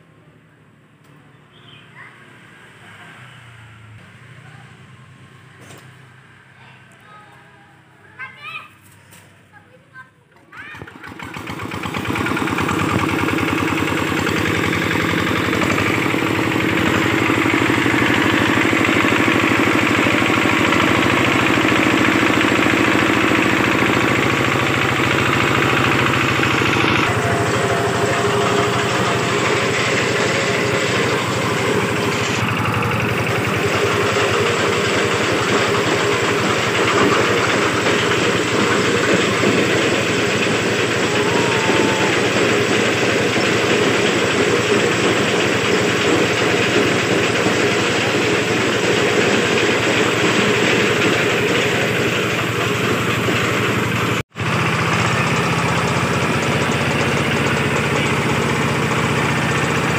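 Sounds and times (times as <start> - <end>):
diesel engine running: 10.6 - 59.9.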